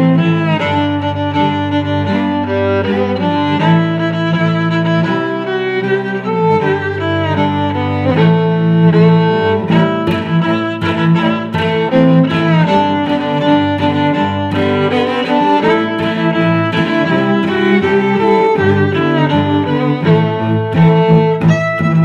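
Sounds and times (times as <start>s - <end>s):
bowed strings melody: 0.0s - 22.0s.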